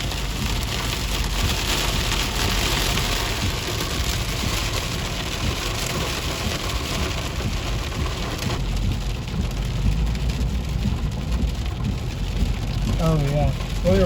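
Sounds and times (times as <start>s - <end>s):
rain hitting car: 0.0s - 14.0s
tyre and road rumble: 0.0s - 14.0s.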